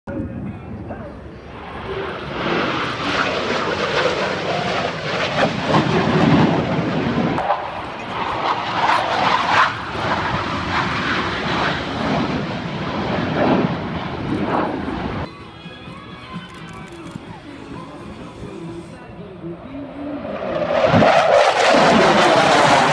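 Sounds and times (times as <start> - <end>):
jet engines flying past: 0.1 - 22.9.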